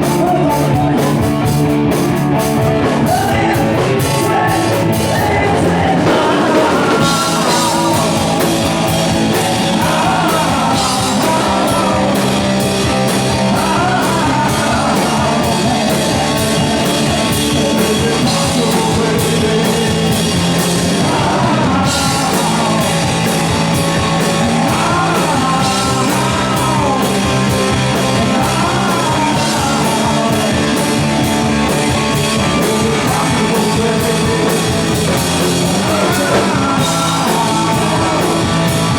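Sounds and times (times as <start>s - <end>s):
person singing: 0.0s - 1.6s, 2.8s - 38.9s
rock band playing live: 0.0s - 38.9s.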